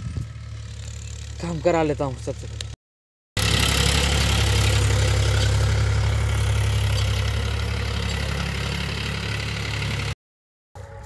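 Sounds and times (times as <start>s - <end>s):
tractor diesel engine under load: 0.0s - 2.8s, 3.4s - 10.2s.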